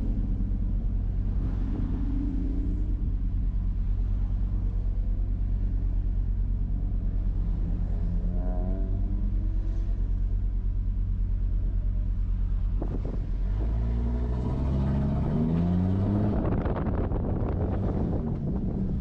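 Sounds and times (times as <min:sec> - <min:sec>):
race car engine running: 0:00.0 - 0:19.0.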